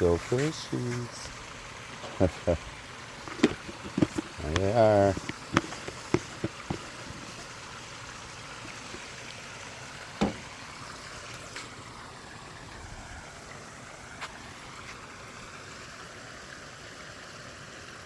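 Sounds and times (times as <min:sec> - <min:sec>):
waterfall water running: 0:00.0 - 0:18.0.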